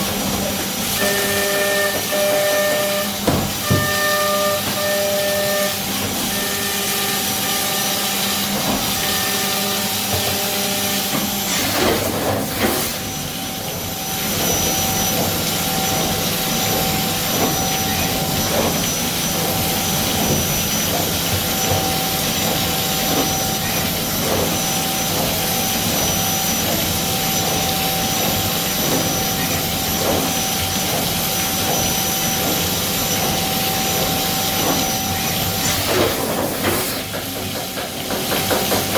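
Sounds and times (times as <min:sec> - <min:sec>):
milling machine spindle whine: 0:00.0 - 0:38.9.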